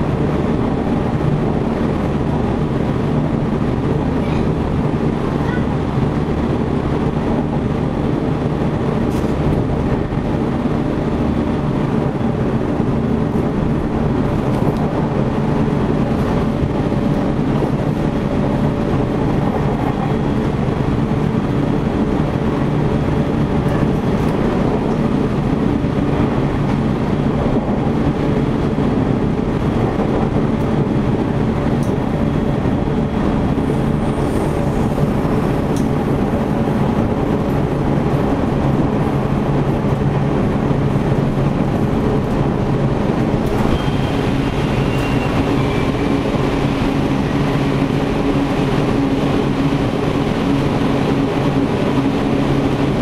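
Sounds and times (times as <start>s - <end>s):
constant train motor hum: 0.0s - 53.0s
train wheels rumbling on rails: 0.0s - 53.0s.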